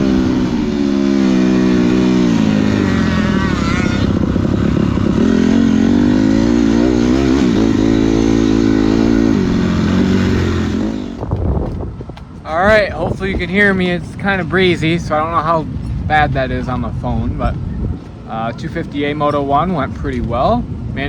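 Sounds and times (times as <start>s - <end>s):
dirt bike engine revving: 0.0s - 20.3s.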